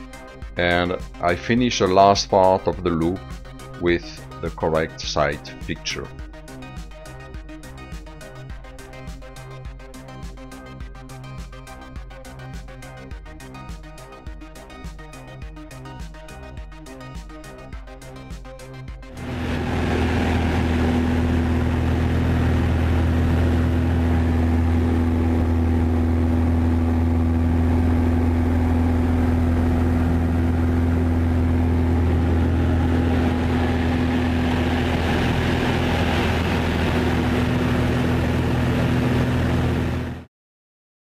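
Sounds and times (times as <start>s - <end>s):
propeller aircraft engine drone: 0.0s - 40.3s.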